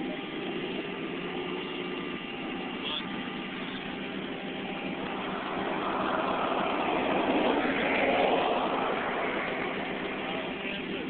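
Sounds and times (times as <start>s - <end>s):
car engine from inside cabin: 0.0s - 11.0s
road noise: 0.0s - 11.0s.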